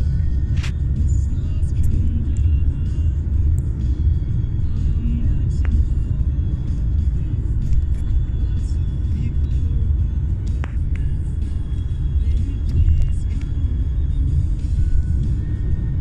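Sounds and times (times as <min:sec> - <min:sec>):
car rumble inside cabin: 0:00.0 - 0:16.0
music playing: 0:00.0 - 0:16.0.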